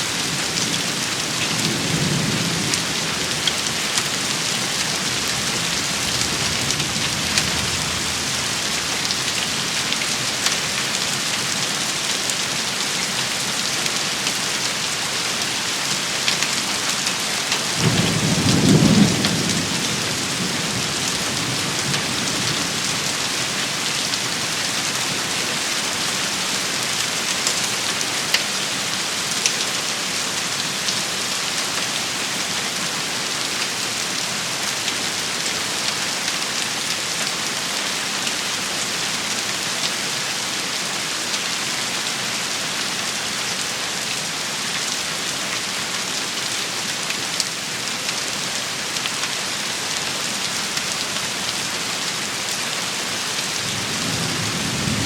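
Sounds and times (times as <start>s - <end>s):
rain pattering on a surface: 0.1s - 55.0s.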